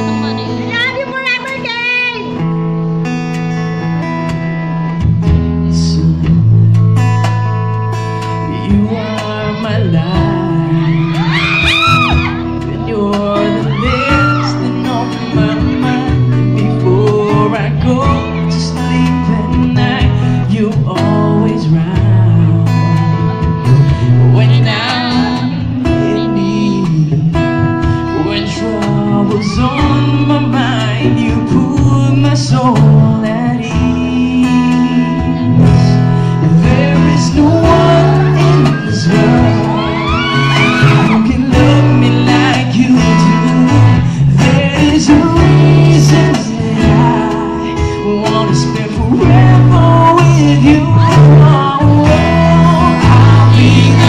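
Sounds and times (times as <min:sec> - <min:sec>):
acoustic band playing pop ballad: 0:00.0 - 0:54.0
person singing: 0:08.4 - 0:54.0.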